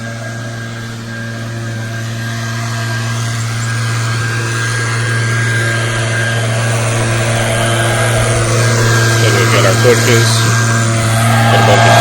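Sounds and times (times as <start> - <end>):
leaf blower engine running: 0.0 - 12.0.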